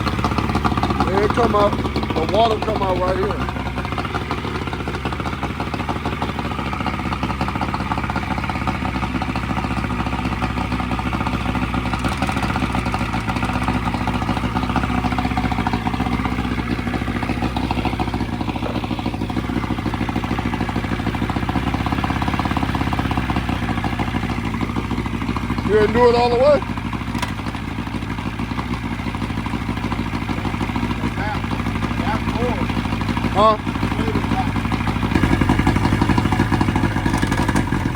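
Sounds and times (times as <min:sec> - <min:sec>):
outboard motor running: 0:00.0 - 0:37.9.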